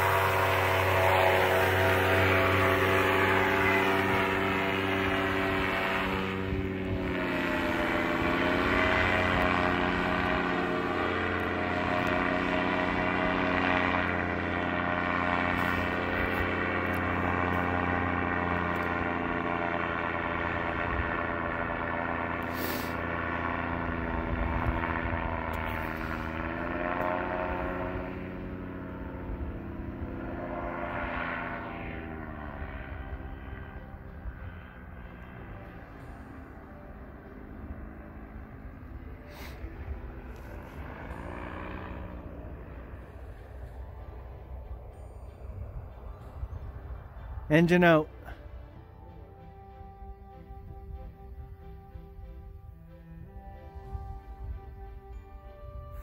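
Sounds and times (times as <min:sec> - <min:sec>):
paramotor engine droning overhead: 0:00.0 - 0:56.0.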